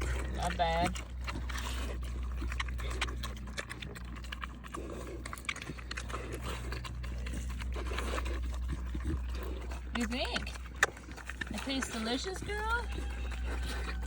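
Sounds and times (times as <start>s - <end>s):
pigs chomping food: 0.0s - 14.0s
steady low hum: 0.0s - 14.0s.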